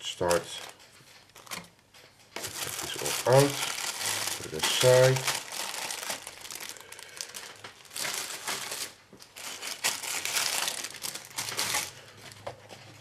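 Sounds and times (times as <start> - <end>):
plastic packaging crinkling: 0.3 - 12.5.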